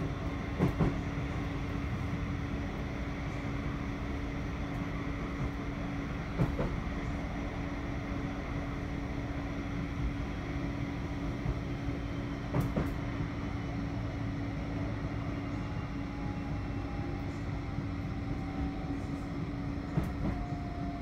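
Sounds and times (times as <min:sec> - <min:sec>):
tram running gear rumble: 0:00.0 - 0:21.0.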